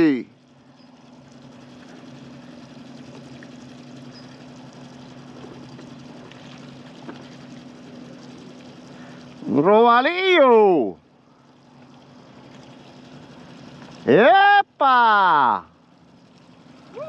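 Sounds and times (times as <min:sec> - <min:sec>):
boat engine humming: 0:00.0 - 0:17.0
faint wash of water: 0:00.0 - 0:17.0.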